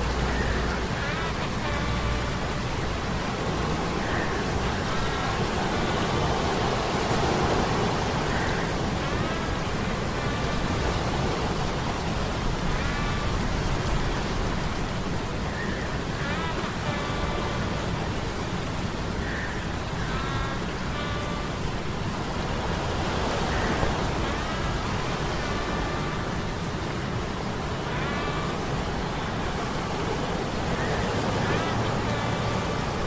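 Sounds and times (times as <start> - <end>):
stormy sea and surf: 0.0 - 33.0.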